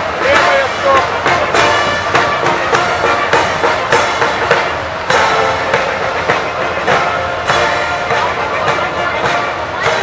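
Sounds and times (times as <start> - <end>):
band playing a march: 0.0 - 10.0
steady drum beat: 0.0 - 10.0.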